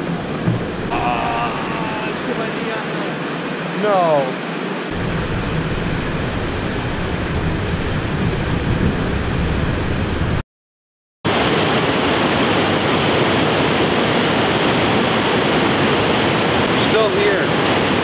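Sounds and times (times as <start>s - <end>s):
water rushing over a dam: 0.0s - 7.8s, 11.3s - 18.0s.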